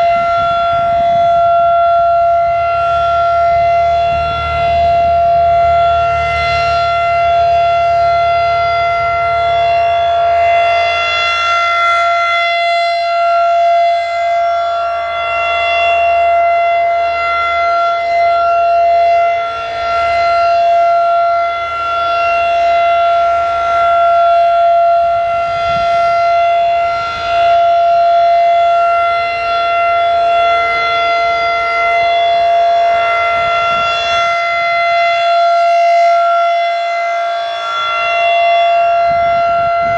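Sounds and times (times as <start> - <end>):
rotating warning siren steady tone: 0.0 - 39.9.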